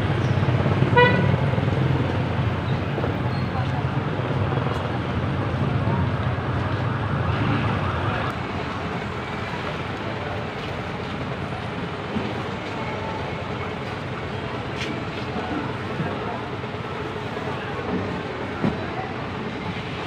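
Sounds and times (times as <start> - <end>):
street traffic engines: 0.0 - 20.0.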